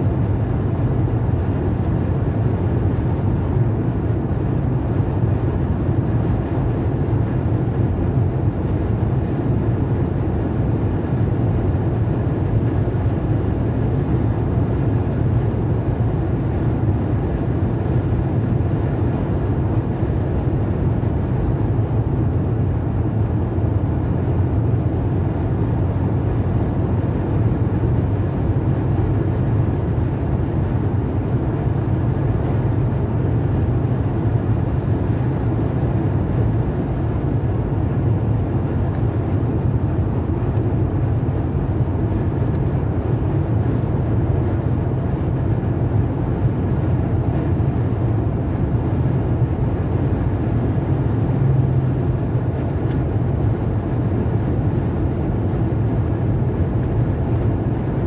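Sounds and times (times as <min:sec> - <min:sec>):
car tyre and engine drone: 0:00.0 - 0:58.0.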